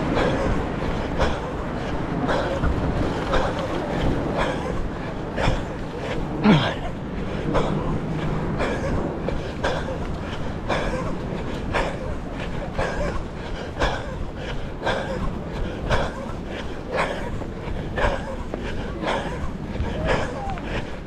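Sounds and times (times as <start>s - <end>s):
runner breathing heavily: 0.0s - 21.0s
wind rumbling on microphone: 0.0s - 21.0s.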